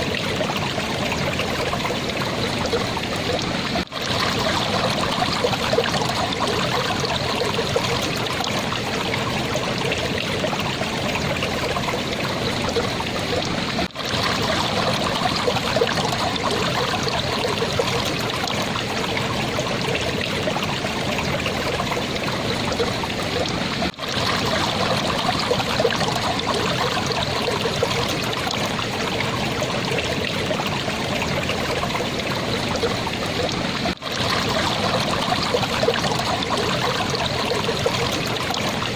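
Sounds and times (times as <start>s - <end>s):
water babbling in a stream: 0.0s - 38.9s.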